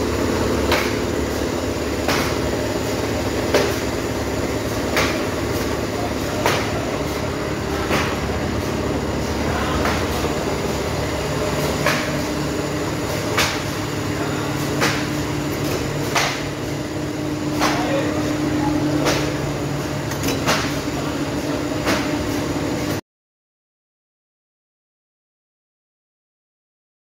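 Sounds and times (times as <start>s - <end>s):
factory machinery humming: 0.0s - 23.0s.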